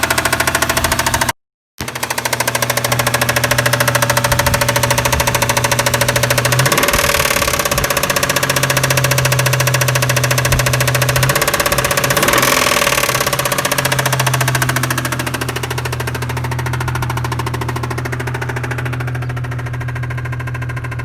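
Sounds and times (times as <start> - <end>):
engine running with rapid tapping: 0.0 - 21.0.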